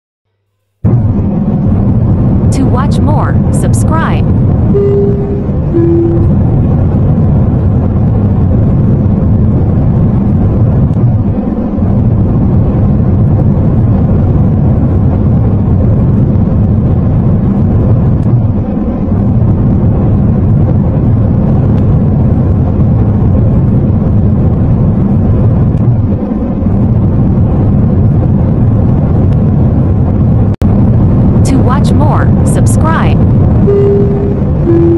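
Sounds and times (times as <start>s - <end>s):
jet airliner rumble: 0.8s - 34.9s.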